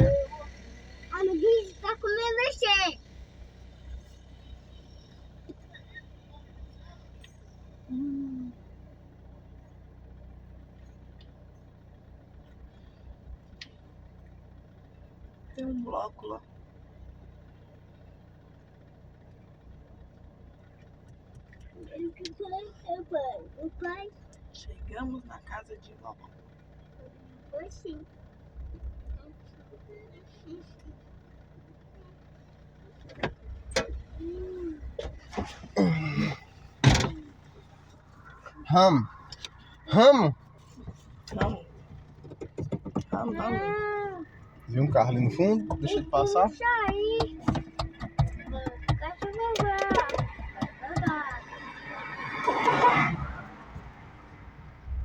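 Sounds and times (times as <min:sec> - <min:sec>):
voices: 0:00.0 - 0:03.2, 0:03.9 - 0:09.4, 0:14.7 - 0:16.6, 0:20.6 - 0:54.7
car engine idling: 0:00.0 - 0:55.0.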